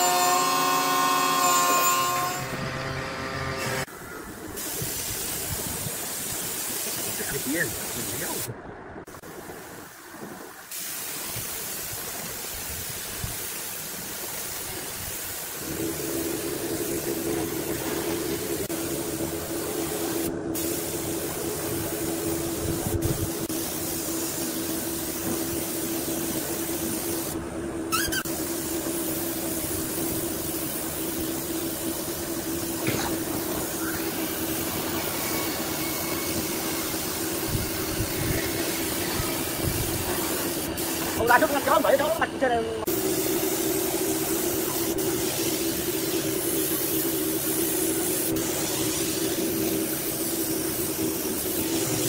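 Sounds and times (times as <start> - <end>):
air spray gun hissing: 4.6 - 8.5, 10.7 - 52.0.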